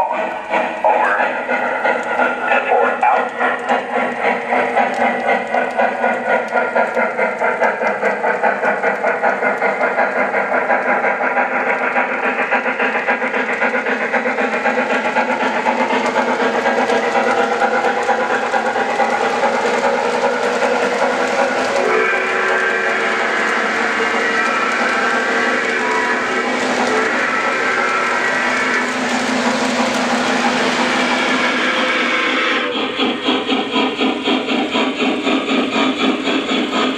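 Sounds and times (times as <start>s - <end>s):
model steam locomotive chuffing: 0.0s - 36.9s.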